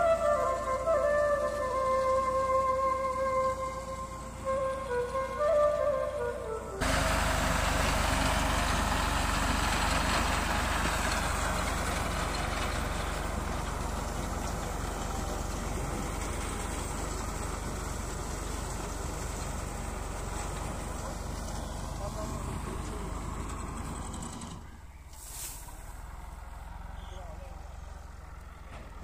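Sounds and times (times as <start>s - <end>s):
tractor diesel engine: 0.0s - 29.0s.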